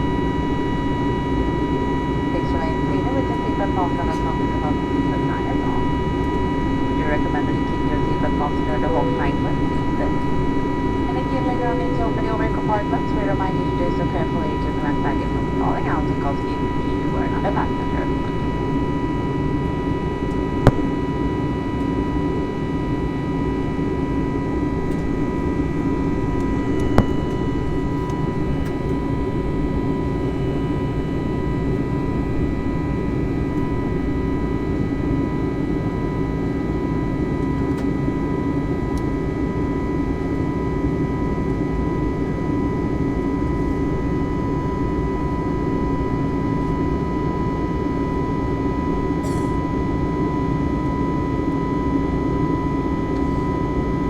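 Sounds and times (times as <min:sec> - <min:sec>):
airplane cabin rumble and whine: 0:00.0 - 0:54.0.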